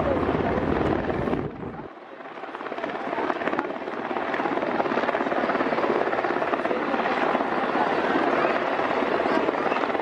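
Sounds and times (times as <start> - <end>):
helicopter rotors thrumming: 0.0 - 10.0.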